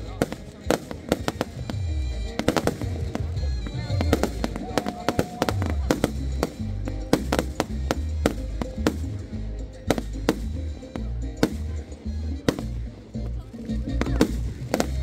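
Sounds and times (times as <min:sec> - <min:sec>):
fireworks bangs and cracks: 0:00.0 - 0:11.8, 0:12.4 - 0:12.9, 0:14.0 - 0:15.0
loud music with heavy bass: 0:00.0 - 0:15.0.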